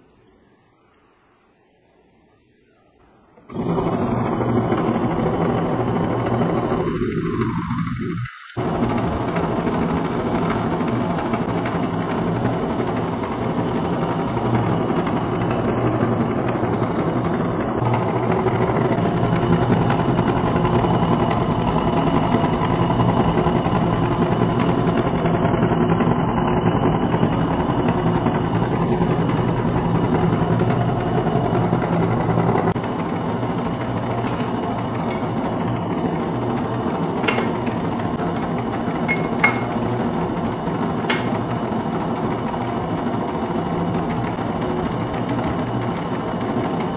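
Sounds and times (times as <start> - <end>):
electric motor whirring: 3.4 - 46.9.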